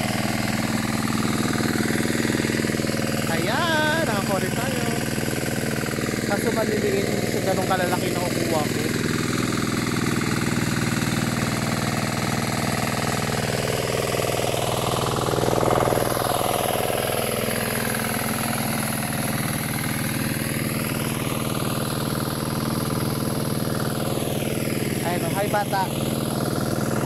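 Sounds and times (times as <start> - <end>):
hand tractor engine running: 0.0 - 27.0.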